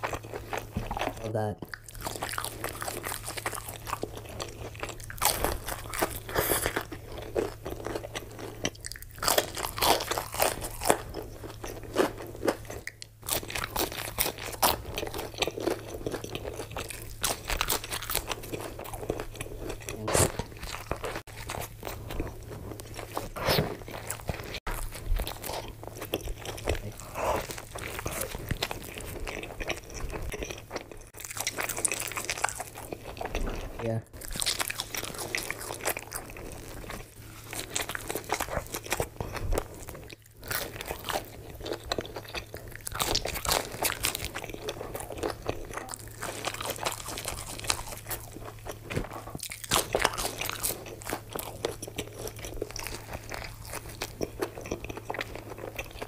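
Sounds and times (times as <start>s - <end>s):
crunchy bites and chewing: 0.0s - 56.0s
low steady hum: 0.0s - 56.0s.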